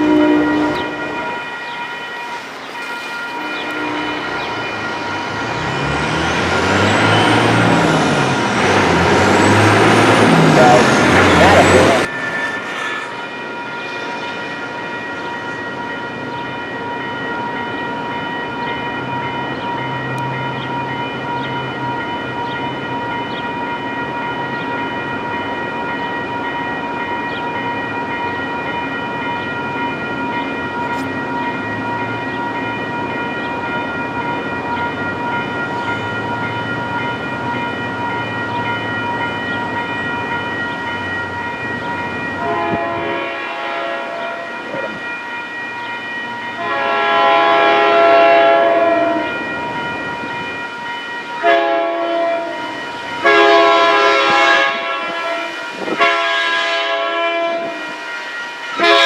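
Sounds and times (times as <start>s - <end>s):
railroad crossing bell ringing: 0.0s - 59.0s.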